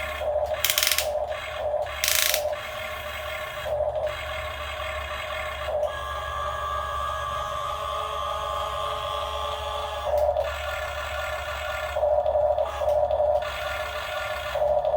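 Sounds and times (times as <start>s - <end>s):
electric gear motors grinding: 0.0s - 14.9s
steady motor whine: 0.0s - 14.9s.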